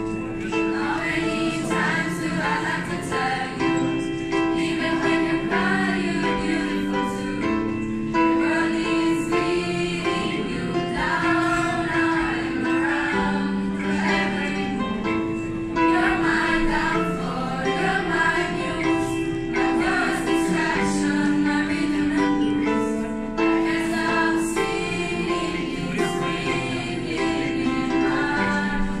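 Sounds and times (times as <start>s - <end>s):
school choir singing: 0.0s - 29.0s.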